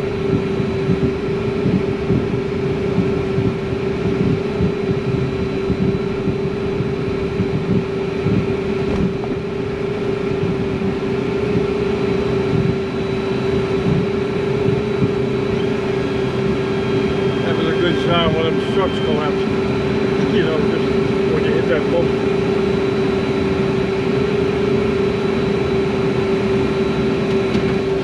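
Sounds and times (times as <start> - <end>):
fluttering low rumble: 0.0 - 24.4
jet engines idling hum: 0.0 - 28.0.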